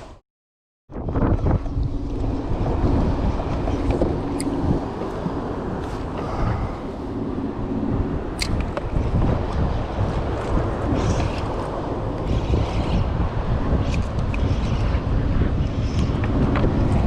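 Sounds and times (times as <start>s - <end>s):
wind buffeting microphone: 0.9s - 17.0s.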